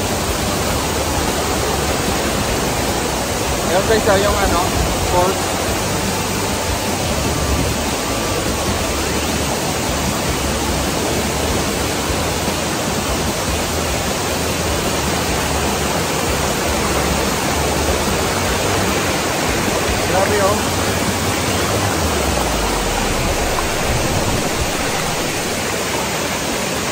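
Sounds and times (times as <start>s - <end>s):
river current tumbling over boulders: 0.0s - 26.9s
waterfall rushing: 0.0s - 26.9s.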